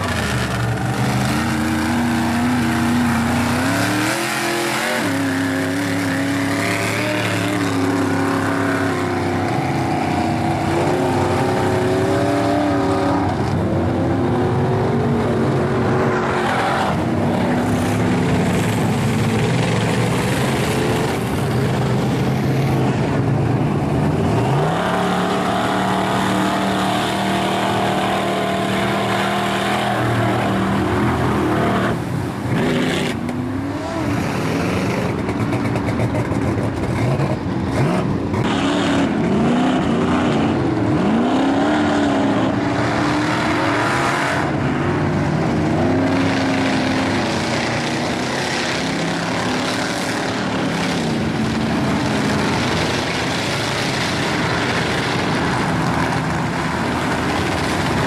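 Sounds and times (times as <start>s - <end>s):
mud truck engines revving: 0.0s - 58.0s.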